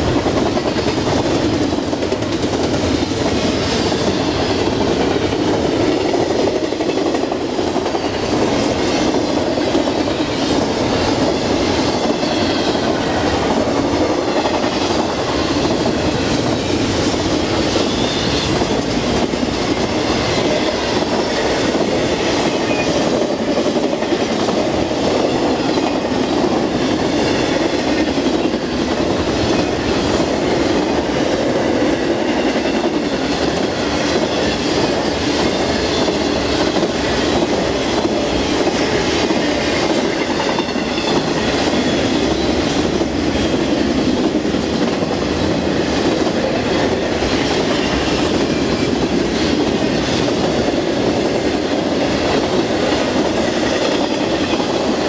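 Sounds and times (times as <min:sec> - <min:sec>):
clickety-clack over rail joints: 0:00.0 - 0:55.0
train wheels rumbling on rail: 0:00.0 - 0:55.0.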